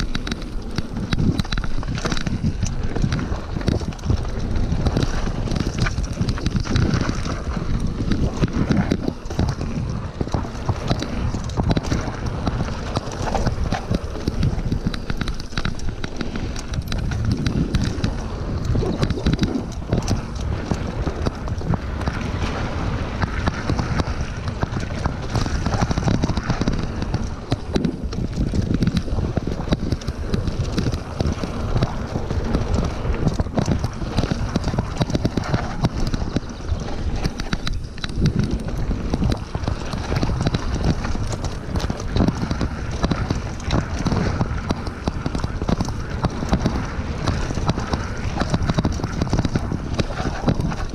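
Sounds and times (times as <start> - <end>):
bike rattling over bumps: 0.0 - 50.9
bike tyres on loose dirt: 0.0 - 50.9
wind buffeting microphone: 0.0 - 50.9.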